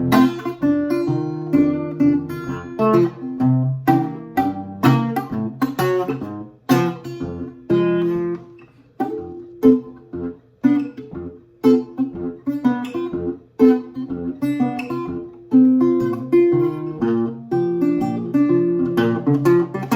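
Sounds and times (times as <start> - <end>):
acoustic guitar blues picking: 0.0 - 19.9.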